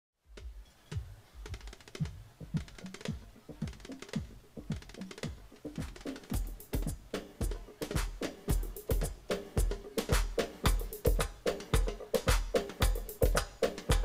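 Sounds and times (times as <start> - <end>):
barrel drum beating a rhythm: 0.3 - 14.0.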